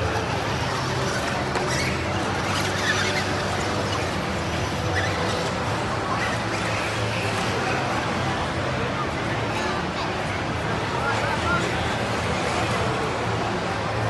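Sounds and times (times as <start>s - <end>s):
crowd voices: 0.0s - 14.0s.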